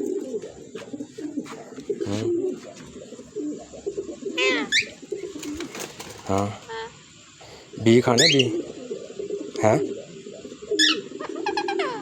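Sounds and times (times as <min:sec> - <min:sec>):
bird low warbling coos: 0:00.0 - 0:12.0.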